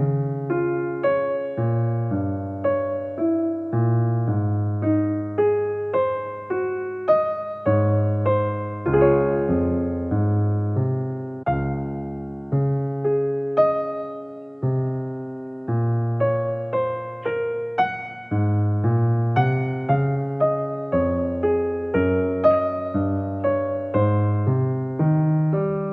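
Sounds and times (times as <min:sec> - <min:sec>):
slow piano-like keyboard melody: 0:00.0 - 0:25.9.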